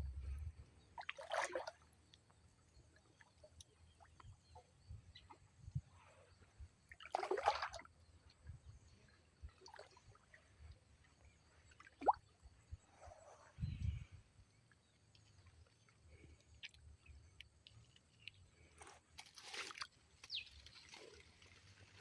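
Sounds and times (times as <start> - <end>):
water trickling and sloshing: 0.0 - 22.0.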